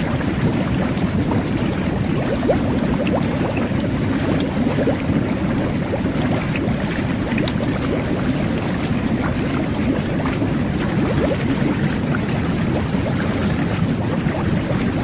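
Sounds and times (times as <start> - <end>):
jet bath water churning: 0.0 - 15.0.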